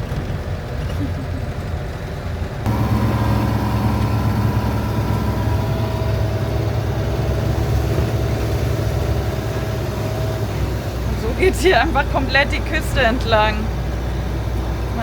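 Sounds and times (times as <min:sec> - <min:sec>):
road noise: 0:00.0 - 0:15.0
van engine drone: 0:00.0 - 0:15.0.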